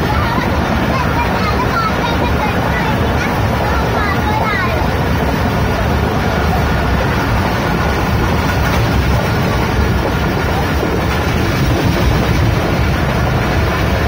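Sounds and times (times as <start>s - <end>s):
air rushing through window: 0.0s - 14.0s
rumble of train wheels: 0.0s - 14.0s.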